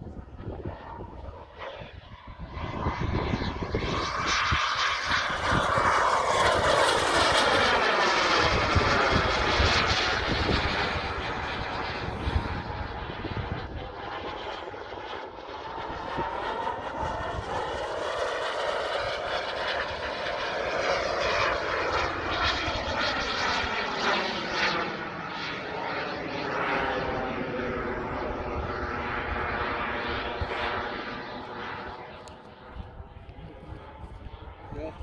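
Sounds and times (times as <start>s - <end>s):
model jet turbine engine: 0.0s - 35.0s.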